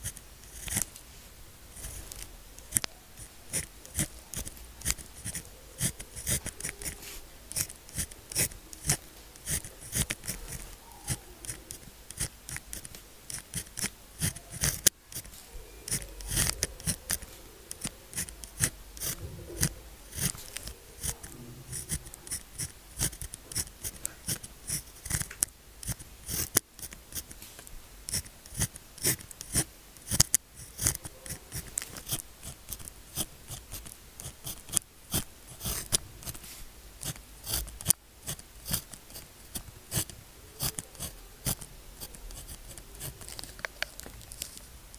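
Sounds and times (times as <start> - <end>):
pen nib scratching on paper: 0.0 - 0.9, 1.7 - 44.6.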